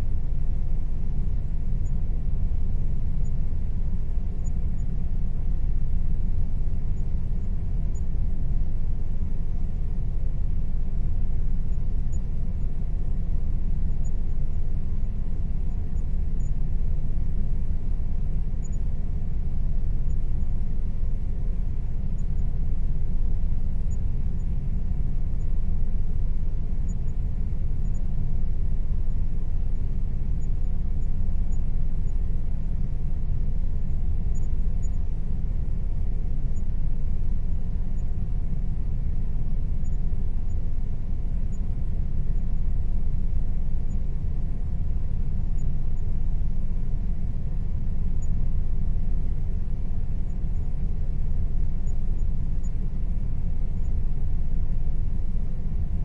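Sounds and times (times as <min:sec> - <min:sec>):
air conditioner running: 0:00.0 - 0:56.0.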